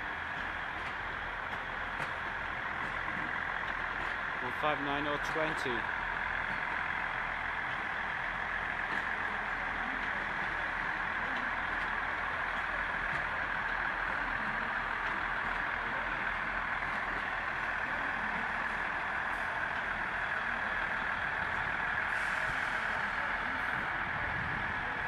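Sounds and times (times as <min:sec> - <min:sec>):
diesel train engine drone: 0:00.0 - 0:25.0.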